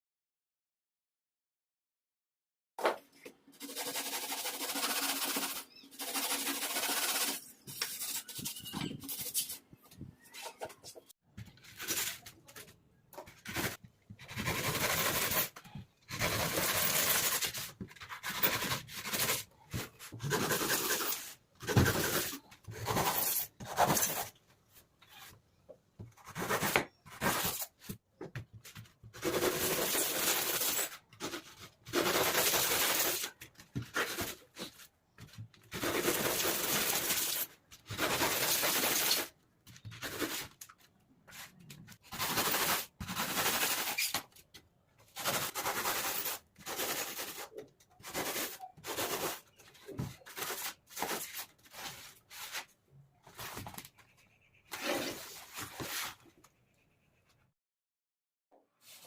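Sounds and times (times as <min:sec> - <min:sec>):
scraping and rubbing: 0:03.1 - 0:25.4, 0:28.6 - 0:56.4.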